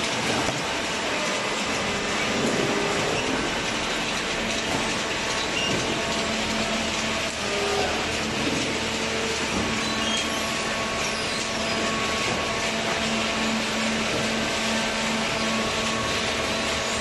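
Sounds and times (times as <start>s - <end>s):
baler mechanical drone: 0.0s - 17.0s.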